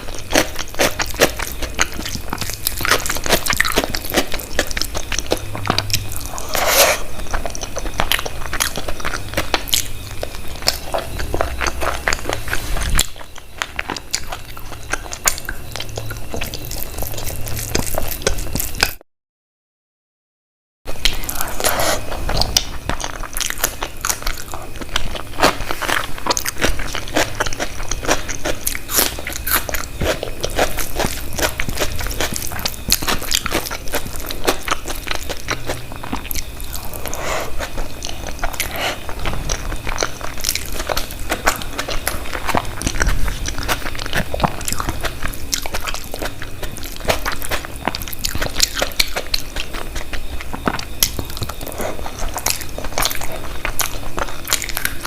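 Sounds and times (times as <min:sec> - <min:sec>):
person chewing crunchy food: 0:00.0 - 0:19.0, 0:20.9 - 0:55.0.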